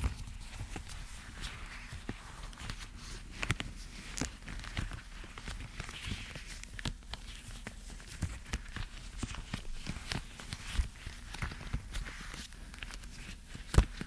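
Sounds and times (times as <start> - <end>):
soft scratching: 0.0 - 14.0.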